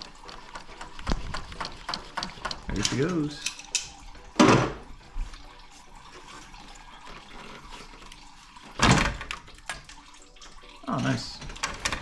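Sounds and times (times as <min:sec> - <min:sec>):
coolant pouring from hose: 0:00.0 - 0:12.0.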